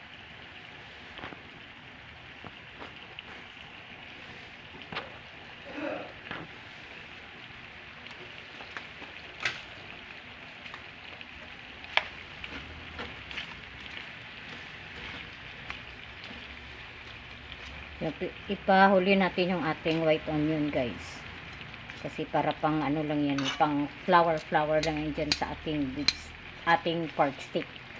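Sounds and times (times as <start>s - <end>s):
meat sizzling in a frying pan: 0.0s - 27.9s.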